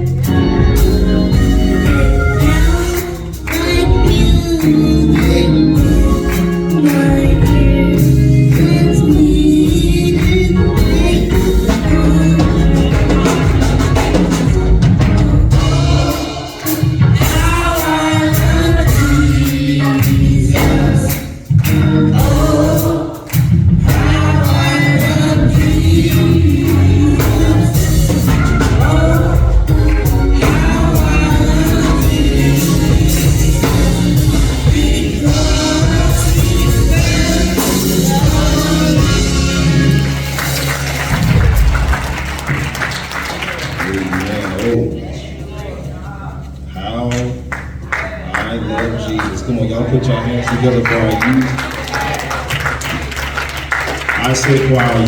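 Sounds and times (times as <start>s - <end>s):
gospel singing with accompaniment: 0.0s - 55.0s.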